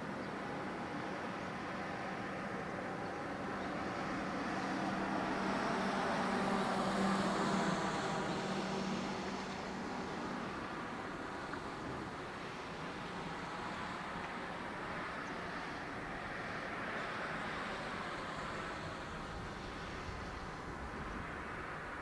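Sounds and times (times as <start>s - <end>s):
jet airliner passing at takeoff: 0.1s - 22.0s.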